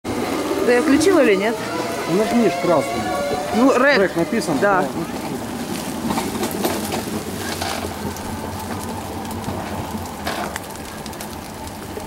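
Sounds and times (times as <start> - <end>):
sled wheels rumbling on rails: 0.0 - 12.0.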